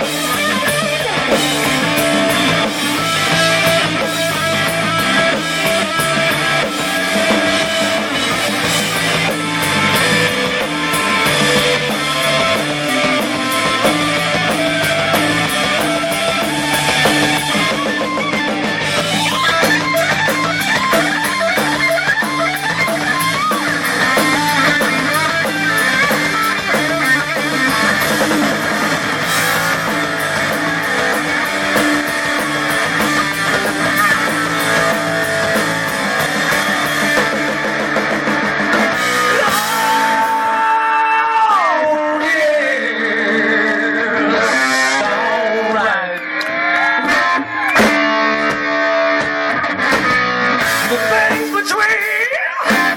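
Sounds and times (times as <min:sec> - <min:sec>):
bass and drums: 0:00.0 - 0:45.9, 0:46.9 - 0:52.9
electric guitar lead: 0:00.0 - 0:52.9.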